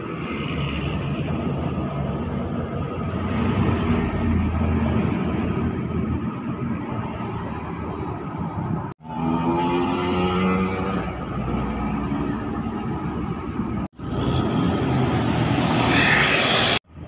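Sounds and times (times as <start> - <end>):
engine hum and tyre noise: 0.0 - 17.0
vehicles passing: 0.0 - 17.0.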